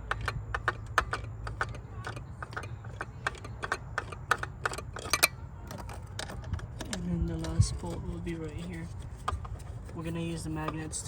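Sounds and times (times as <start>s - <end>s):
hand ratchet clicking: 0.0s - 9.9s.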